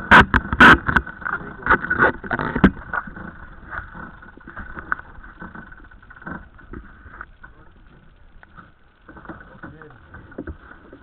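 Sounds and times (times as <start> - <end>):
knocks and clicks of sailboat gear: 0.0 - 11.0.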